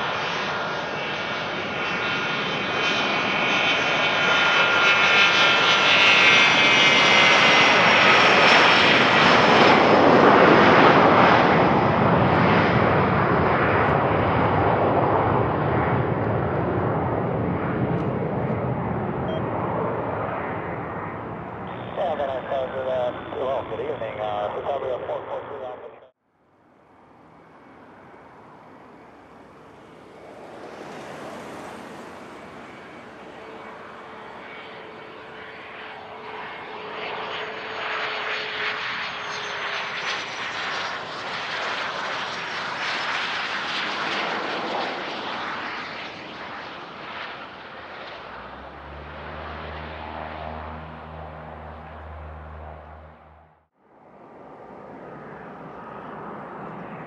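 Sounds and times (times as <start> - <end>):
airplane engine noise: 0.0 - 57.0.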